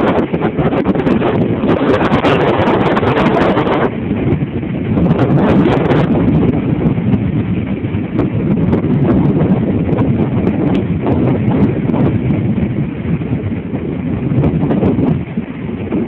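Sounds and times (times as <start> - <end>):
storm waves breaking over pier: 0.0 - 16.0
wind buffeting microphone: 0.0 - 16.0.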